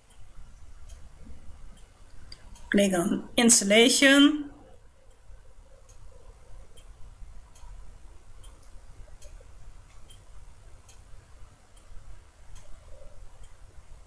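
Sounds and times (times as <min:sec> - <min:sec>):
faint ticks: 0:00.0 - 0:02.7, 0:04.6 - 0:14.0.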